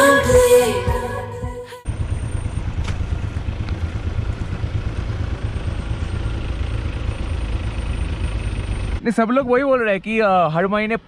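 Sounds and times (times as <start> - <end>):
car engines low rumble: 0.2 - 11.0.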